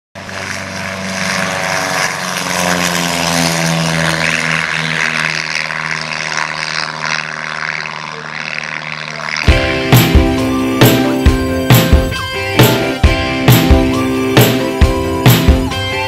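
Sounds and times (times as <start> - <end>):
propeller airplane flying overhead: 0.2 - 16.0.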